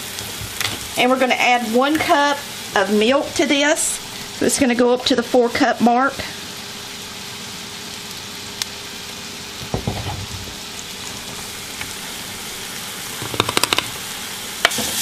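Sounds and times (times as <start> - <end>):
vegetables sizzling in butter: 0.0 - 15.0.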